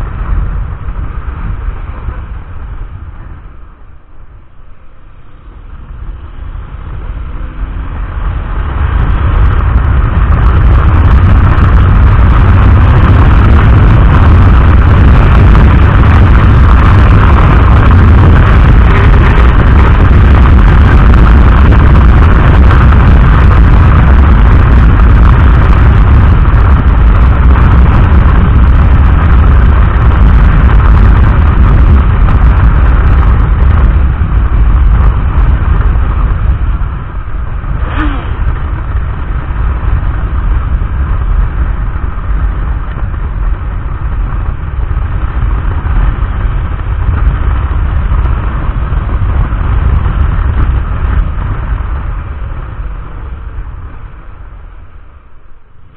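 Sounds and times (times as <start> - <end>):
motorcycle engine: 0.0 - 55.9
wind buffeting microphone: 0.0 - 55.9.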